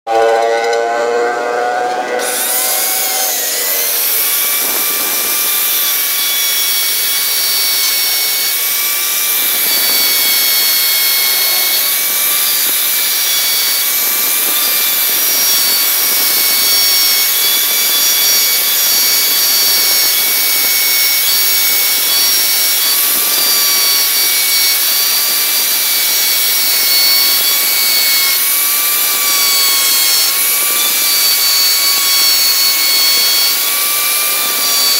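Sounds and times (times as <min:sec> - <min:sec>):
electric router cutting wood: 0:00.1 - 0:34.9.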